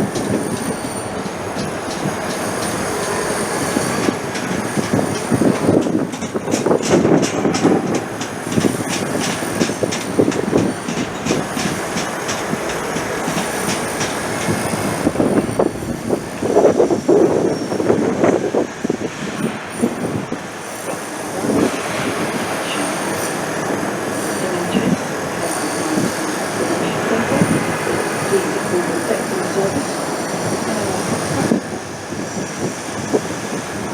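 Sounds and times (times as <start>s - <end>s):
train running noise: 0.0s - 33.9s
train wheels clicking over rail joints: 0.0s - 33.9s.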